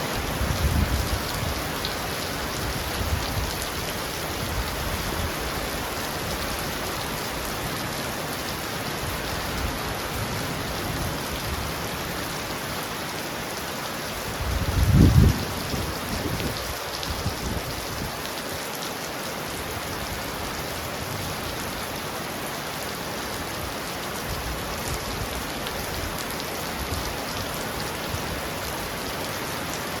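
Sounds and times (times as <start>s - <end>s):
heavy rain on a roof: 0.0s - 30.0s.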